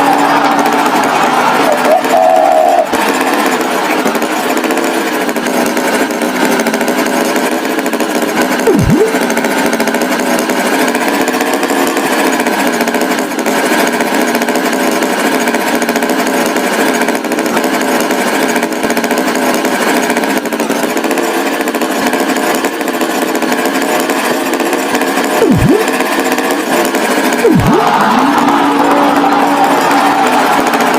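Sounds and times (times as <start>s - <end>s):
motor running with rattling: 0.0s - 30.9s.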